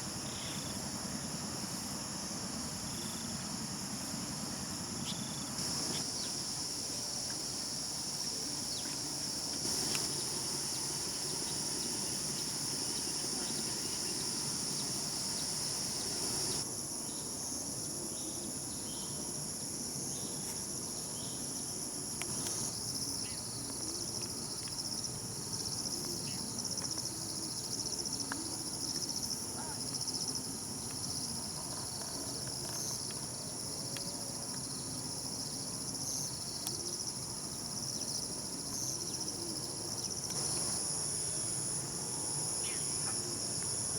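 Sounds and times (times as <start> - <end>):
high-pitched insect chorus: 0.0 - 43.9.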